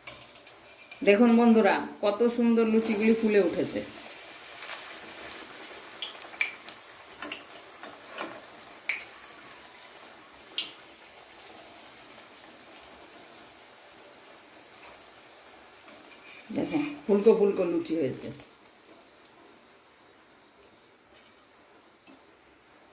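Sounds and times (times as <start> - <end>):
deep-frying sizzle: 0.0 - 22.9.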